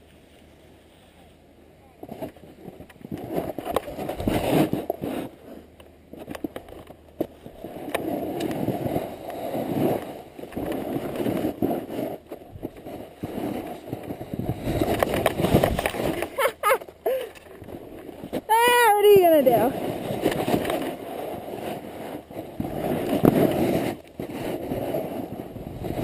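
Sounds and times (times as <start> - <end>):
snowboard scraping over snow: 0.2 - 6.5, 7.1 - 26.0
clicks and crackles: 2.0 - 18.7, 19.7 - 26.0.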